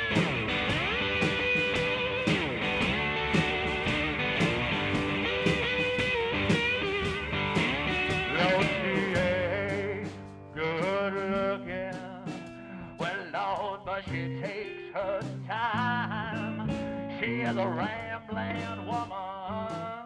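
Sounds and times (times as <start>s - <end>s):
country music with guitar: 0.0s - 20.0s.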